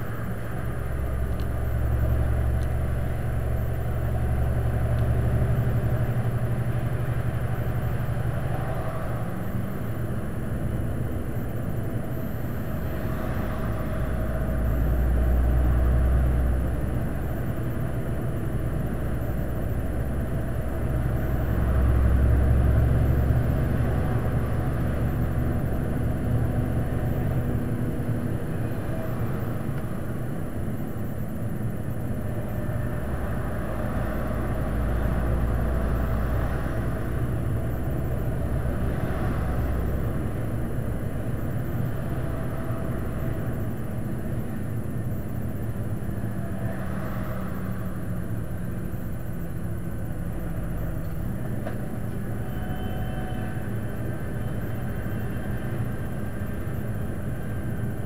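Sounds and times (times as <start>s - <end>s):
faint steady hum: 0.0s - 58.0s
vehicle engine and tyres rumbling: 0.0s - 58.0s.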